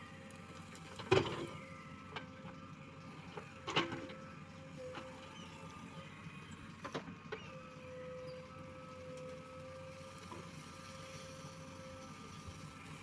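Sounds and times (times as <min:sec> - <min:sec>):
backhoe engine and hydraulics hum: 0:00.0 - 0:13.0.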